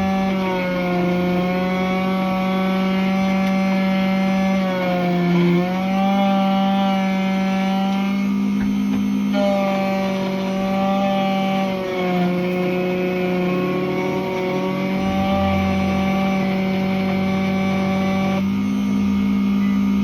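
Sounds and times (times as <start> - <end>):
key-cutting machine motor hum: 0.0 - 20.0.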